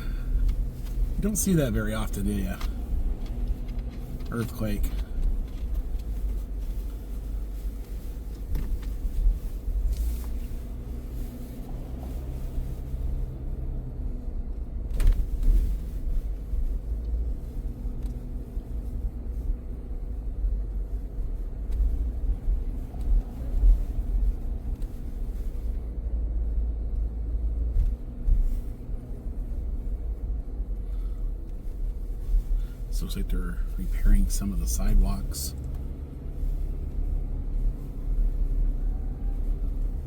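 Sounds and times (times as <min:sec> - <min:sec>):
car engine and tyre drone: 0:00.0 - 0:40.0.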